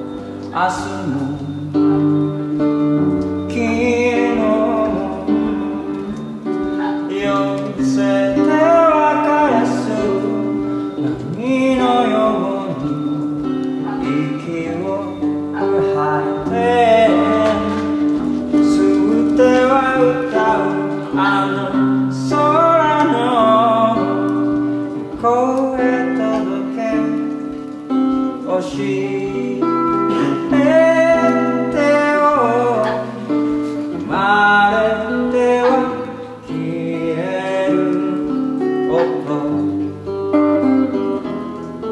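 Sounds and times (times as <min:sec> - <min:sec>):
guitar accompaniment: 0:00.0 - 0:41.9
man singing: 0:00.0 - 0:41.9.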